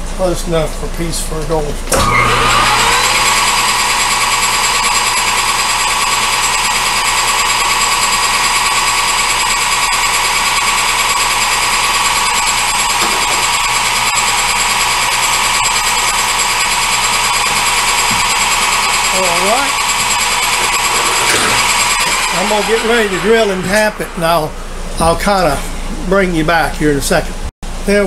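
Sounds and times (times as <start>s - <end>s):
metal lathe whining: 1.9s - 25.6s.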